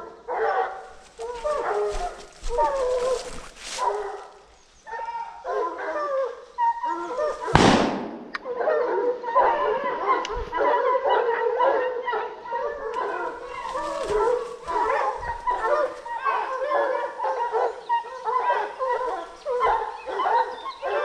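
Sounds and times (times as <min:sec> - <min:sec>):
dogs barking and baying: 0:00.0 - 0:07.6, 0:08.3 - 0:21.0.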